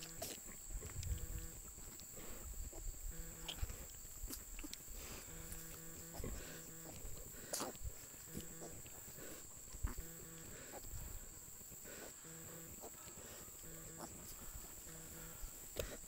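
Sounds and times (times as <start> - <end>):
pig grunting: 0.0 - 1.6, 2.2 - 16.0.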